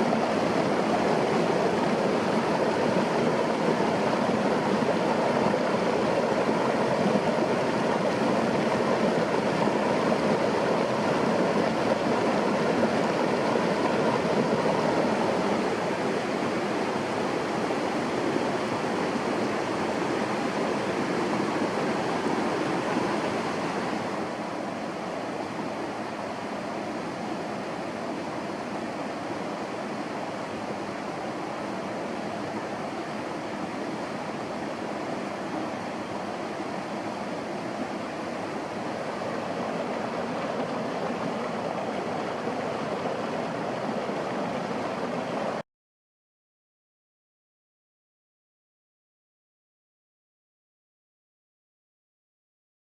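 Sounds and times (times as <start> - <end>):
running water rushing: 0.0 - 45.6.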